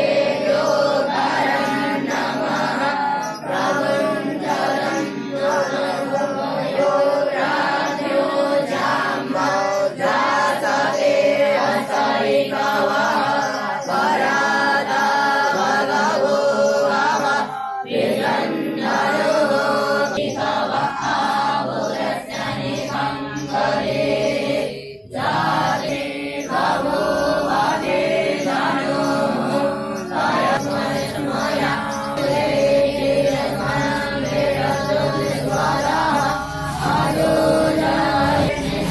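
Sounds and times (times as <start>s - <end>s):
group chanting in unison: 0.0s - 38.9s.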